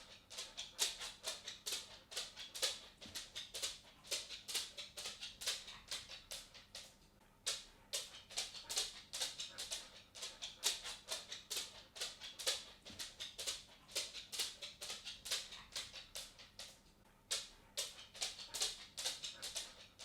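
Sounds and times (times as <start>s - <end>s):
dog claws clicking on wooden floor: 0.0s - 20.0s.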